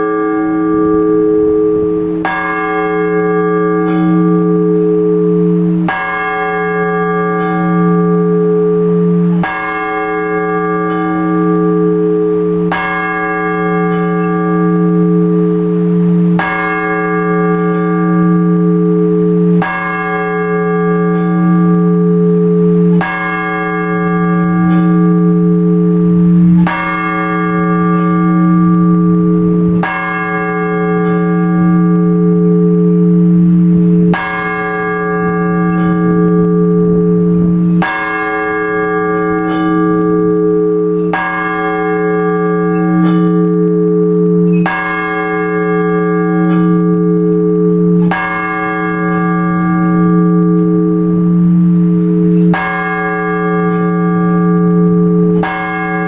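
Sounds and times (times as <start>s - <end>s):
large church bell tolling: 0.0s - 56.0s.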